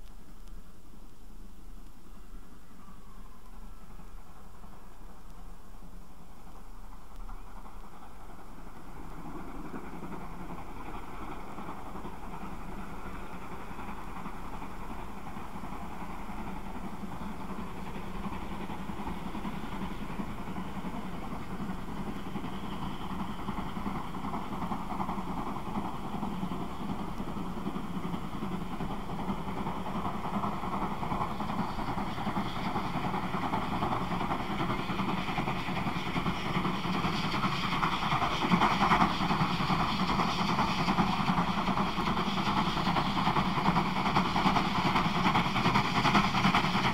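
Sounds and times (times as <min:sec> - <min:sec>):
steam locomotive exhaust: 0:00.4 - 0:46.9.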